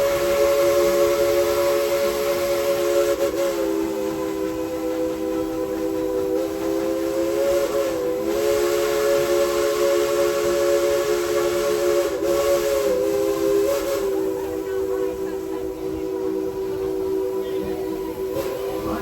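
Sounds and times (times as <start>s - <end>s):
steam hissing: 0.0s - 19.0s
steam whistle blast: 0.0s - 19.0s.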